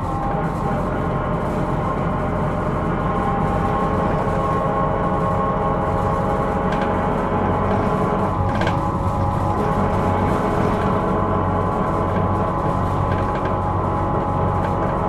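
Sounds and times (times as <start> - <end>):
bus engine and road rumble: 0.0 - 15.0
steady whining tones: 0.0 - 15.0.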